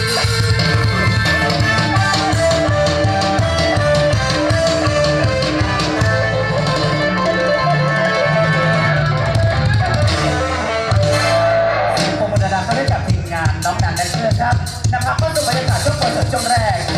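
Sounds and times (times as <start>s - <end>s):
bass line: 0.0s - 16.9s
guitar: 0.0s - 16.9s.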